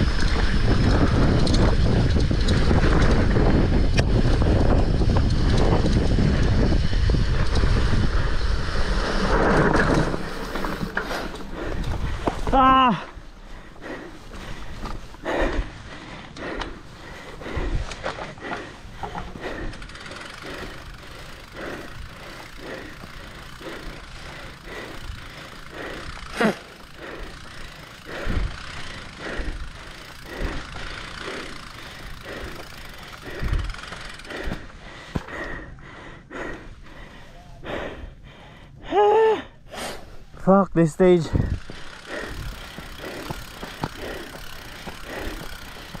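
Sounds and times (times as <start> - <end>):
bike on rough trail: 0.0 - 46.0
rider panting hard: 0.0 - 46.0.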